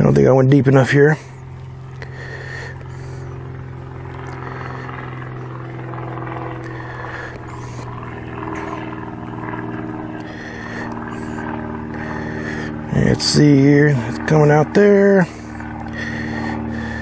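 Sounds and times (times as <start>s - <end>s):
steady engine hum: 0.0s - 17.0s.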